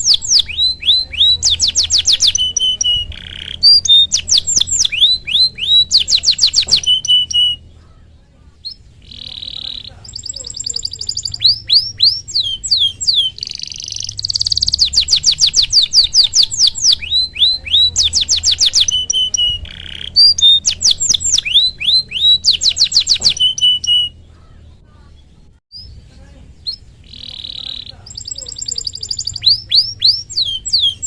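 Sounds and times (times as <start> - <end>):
canary singing: 0.0 - 31.0.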